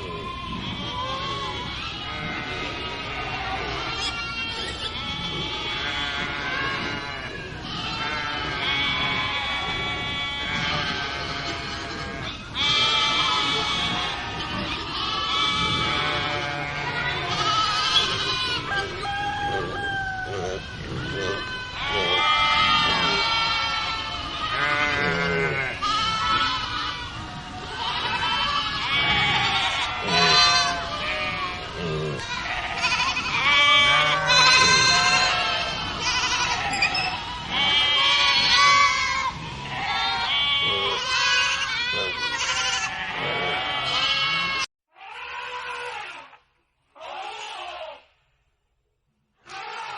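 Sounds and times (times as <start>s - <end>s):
farm animals bleating: 0.0s - 48.2s, 49.4s - 49.9s.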